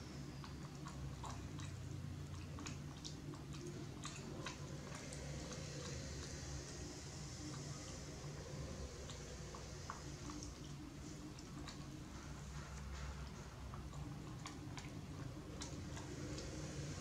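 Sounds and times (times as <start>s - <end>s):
monkey chewing food: 0.0s - 17.0s
steady low hum: 0.0s - 17.0s.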